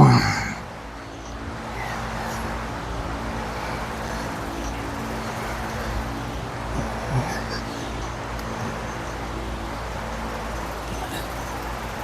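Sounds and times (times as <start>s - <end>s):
faint low hum: 0.0s - 12.0s
steady background noise: 0.0s - 12.0s.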